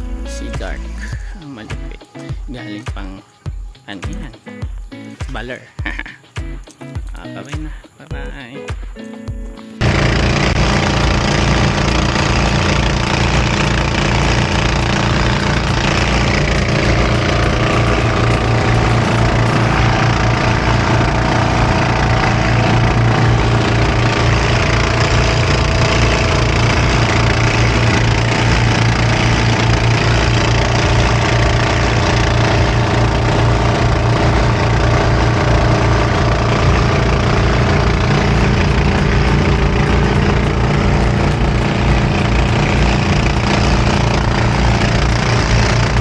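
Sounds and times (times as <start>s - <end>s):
engine running with low hum: 0.0s - 6.2s, 6.8s - 46.0s.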